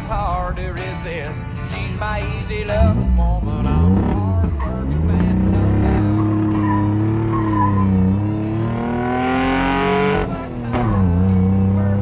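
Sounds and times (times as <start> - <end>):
truck engine accelerating: 0.0 - 12.0.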